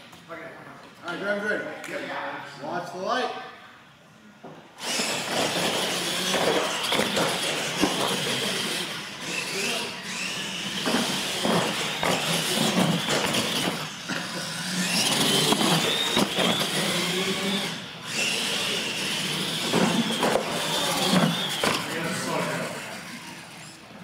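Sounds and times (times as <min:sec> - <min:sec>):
electric motors whining: 0:04.8 - 0:24.0.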